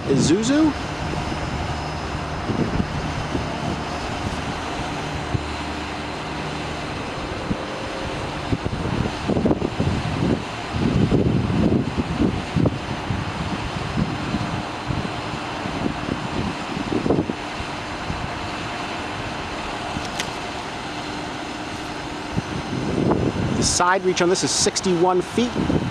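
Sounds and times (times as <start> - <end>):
wind buffeting microphone: 0.0 - 23.9, 25.3 - 25.9
diesel engine running: 0.0 - 25.9.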